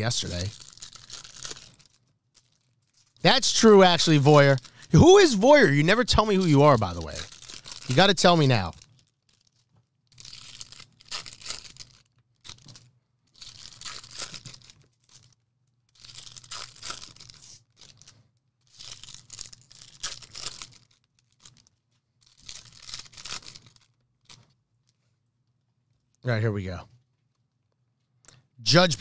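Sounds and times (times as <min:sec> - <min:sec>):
card pack wrappers tearing: 0:00.0 - 0:24.5.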